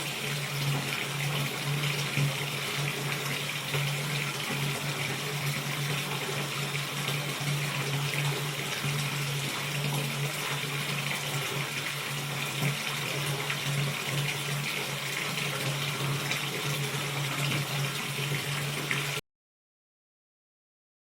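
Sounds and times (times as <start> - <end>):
tap water filling bathtub: 0.0 - 19.2.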